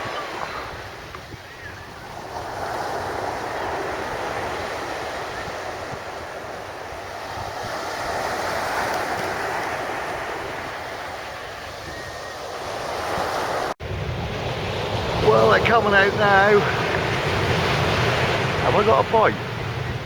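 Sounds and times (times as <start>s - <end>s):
sea waves breaking on shore: 0.0s - 20.0s
wind buffeting microphone: 0.0s - 20.0s.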